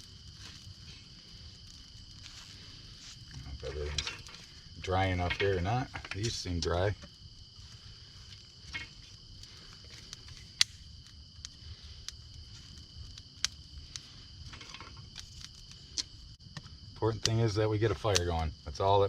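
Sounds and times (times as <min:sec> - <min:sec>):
sticks snapping in fire: 0:00.0 - 0:17.4, 0:18.0 - 0:18.4
insects trilling: 0:00.0 - 0:19.0.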